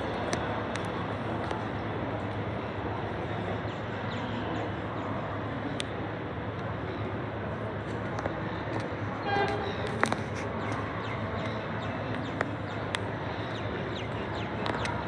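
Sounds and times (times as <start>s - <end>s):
distant electric train running: 0.0s - 15.0s
rail yard and city rumble: 0.0s - 15.0s.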